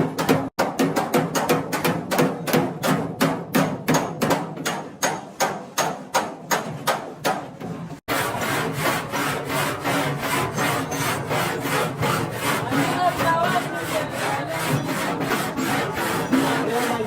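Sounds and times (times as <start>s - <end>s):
hammer beating sheet metal: 0.0s - 17.0s.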